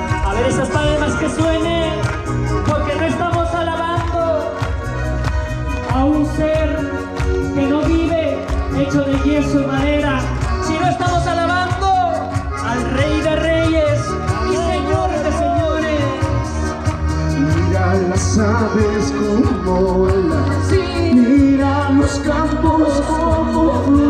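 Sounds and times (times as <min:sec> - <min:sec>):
church band praise music: 0:00.0 - 0:24.0.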